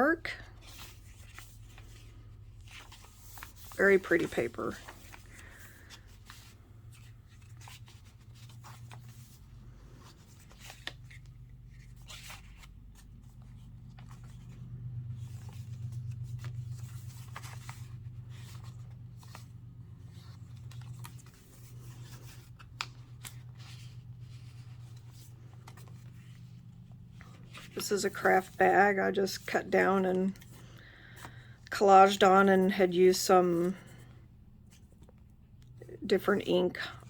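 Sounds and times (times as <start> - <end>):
paper rustling and crinkling: 0.3 - 31.5.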